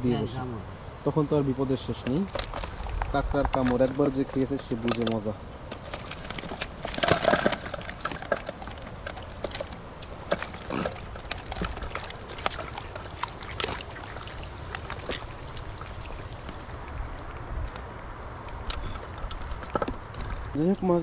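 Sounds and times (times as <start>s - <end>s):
water sloshing: 1.8s - 20.6s.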